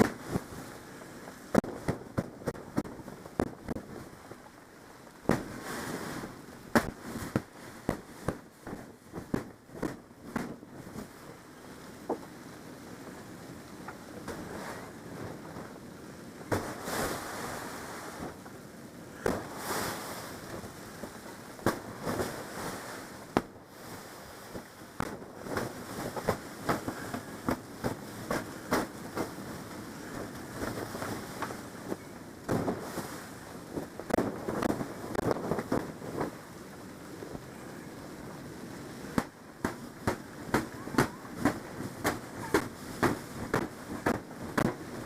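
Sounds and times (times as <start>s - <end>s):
blizzard wind rushing: 0.0s - 45.0s
sharp crackles and thumps: 0.0s - 45.0s.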